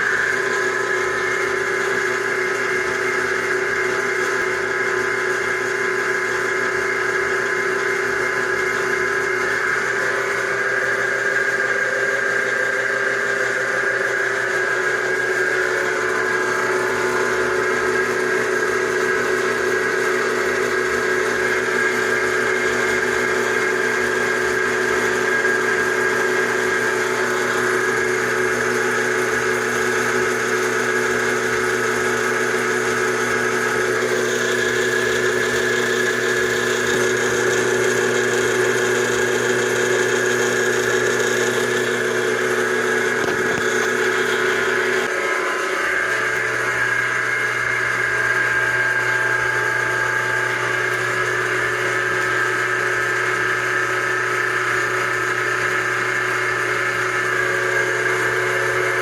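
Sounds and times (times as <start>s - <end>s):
drill motor humming and whining: 0.0s - 59.0s.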